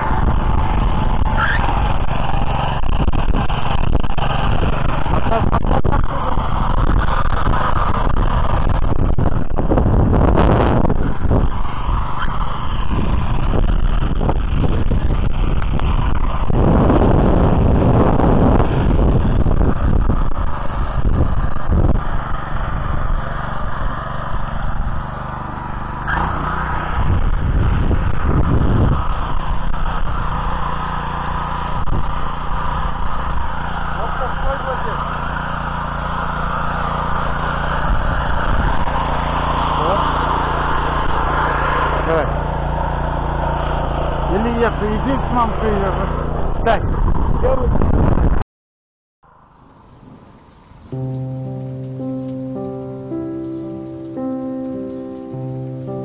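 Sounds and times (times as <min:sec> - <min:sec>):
cultivator tines dragging through soil: 0:00.0 - 0:46.4, 0:49.4 - 0:56.0
tractor engine under load: 0:00.0 - 0:46.7, 0:49.3 - 0:56.0.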